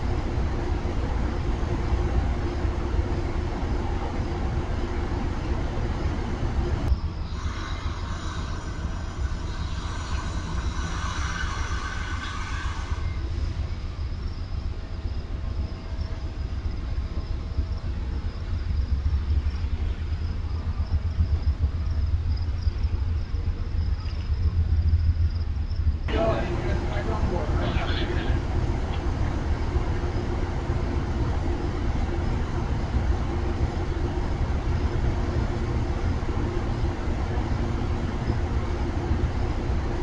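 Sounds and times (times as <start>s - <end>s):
train cars rumbling: 0.0s - 40.0s.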